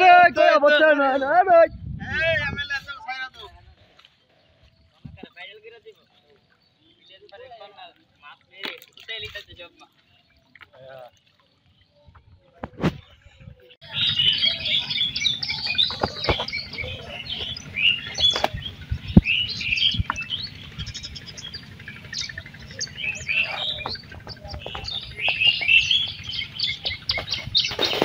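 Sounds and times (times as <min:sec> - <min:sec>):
small birds chirping: 0:00.8 - 0:12.6, 0:13.2 - 0:28.0.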